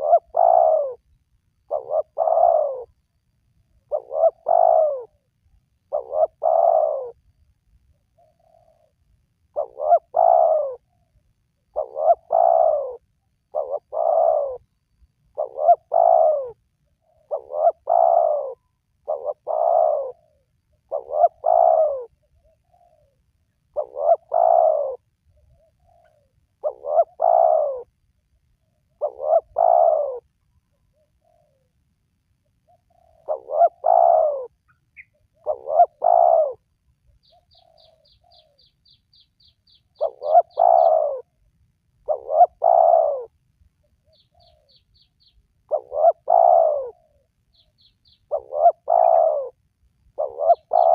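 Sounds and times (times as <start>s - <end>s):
dove cooing: 0.0s - 28.0s, 28.6s - 31.7s, 32.6s - 50.9s.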